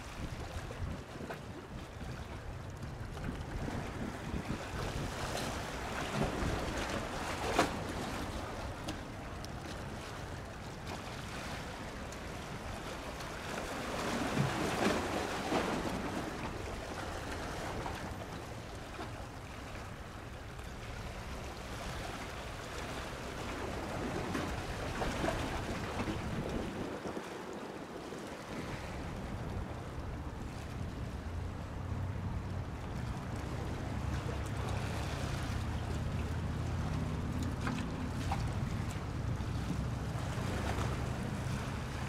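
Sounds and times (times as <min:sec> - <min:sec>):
waves at water's edge: 0:00.0 - 0:42.0
wind: 0:00.0 - 0:42.0.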